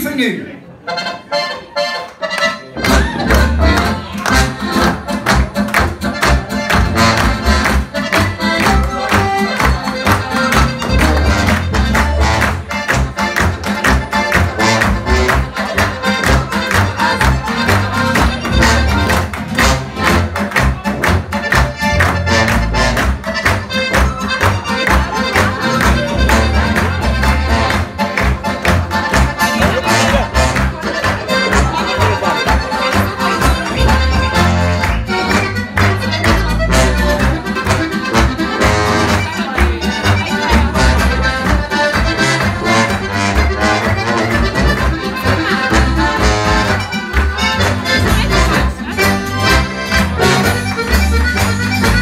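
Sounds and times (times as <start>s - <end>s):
button accordion playing polka: 0.8s - 52.0s
bass: 1.0s - 52.0s
guitar: 1.0s - 52.0s
audience clapping along: 2.0s - 52.0s.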